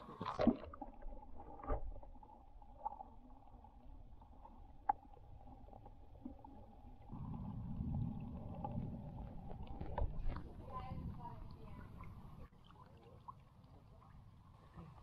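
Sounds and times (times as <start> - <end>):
muffled underwater rumble: 0.0 - 12.5.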